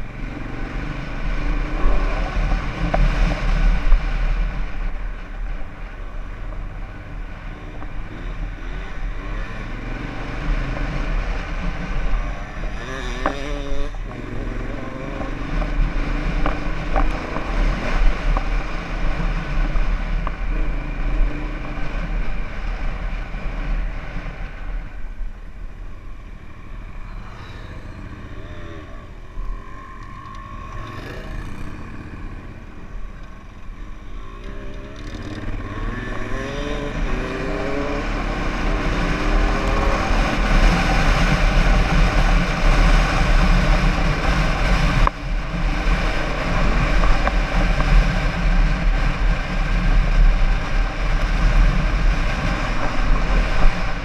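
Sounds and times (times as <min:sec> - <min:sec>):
motorcycle engine revving: 0:00.0 - 0:24.8, 0:26.6 - 0:54.0.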